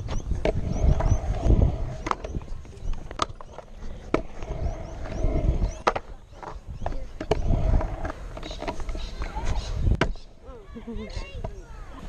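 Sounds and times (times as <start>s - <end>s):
scooter wheels rolling on concrete: 0.0s - 12.0s.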